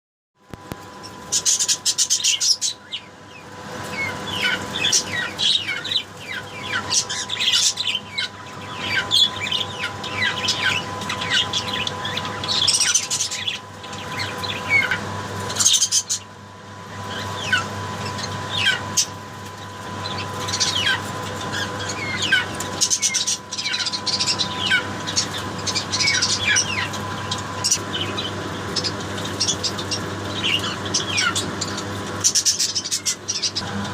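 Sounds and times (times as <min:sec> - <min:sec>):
low electrical hum: 0:00.4 - 0:33.9
birds chirping: 0:00.5 - 0:33.9.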